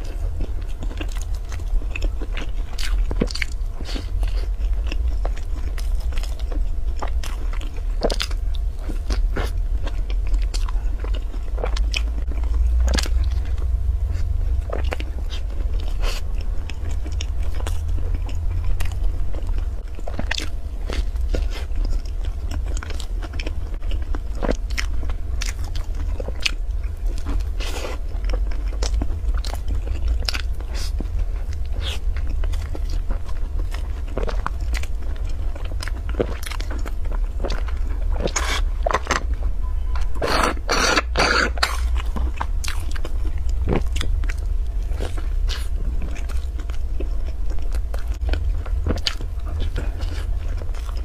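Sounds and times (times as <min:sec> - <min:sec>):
chewing and crunching bread: 0:00.0 - 0:51.0
steady low hum: 0:00.0 - 0:51.0.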